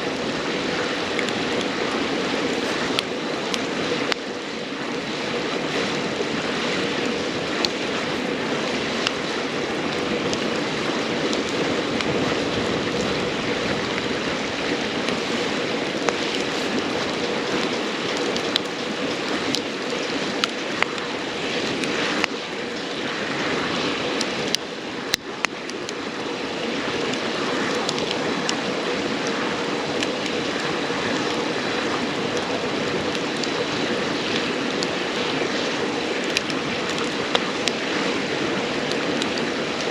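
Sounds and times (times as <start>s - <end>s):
campfire crackling: 0.0s - 39.9s
river water babbling: 0.0s - 39.9s.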